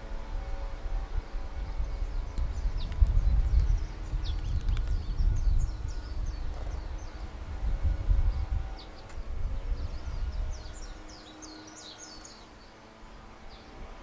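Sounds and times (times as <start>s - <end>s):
wind rumble on microphone: 0.0s - 14.0s
small birds chirping: 1.4s - 14.0s.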